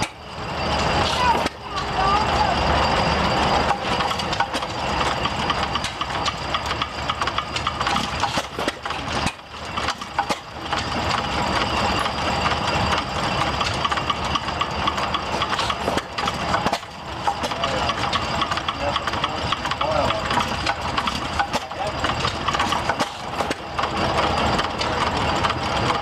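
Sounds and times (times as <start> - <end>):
stationary gas engine running: 0.0 - 26.0.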